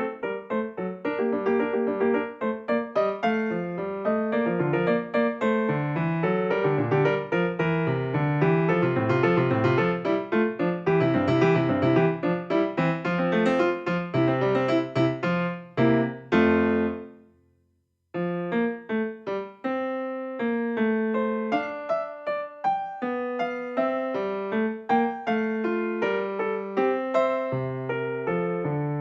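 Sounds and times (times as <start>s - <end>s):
piano notes: 0.0s - 17.3s, 18.2s - 29.0s.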